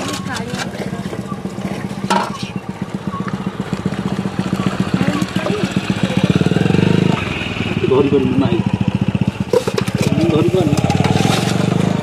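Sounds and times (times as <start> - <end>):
small engine running: 1.3 - 12.0.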